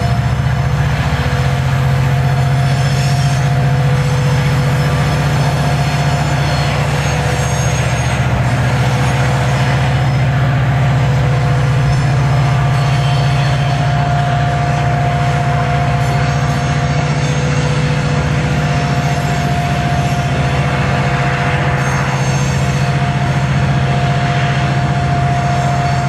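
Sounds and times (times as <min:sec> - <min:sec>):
freight train rumbling by: 0:00.0 - 0:26.0.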